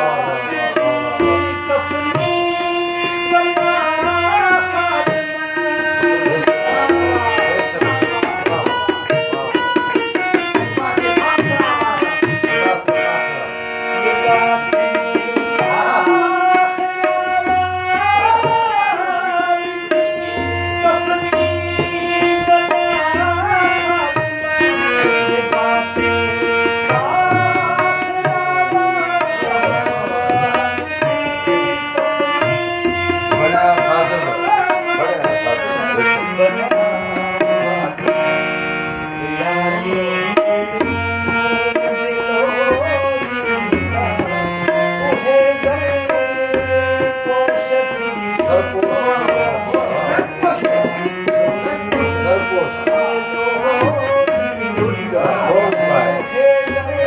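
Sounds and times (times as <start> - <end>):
harmonium melody: 0.0 - 57.0
tabla rhythm: 0.0 - 57.0.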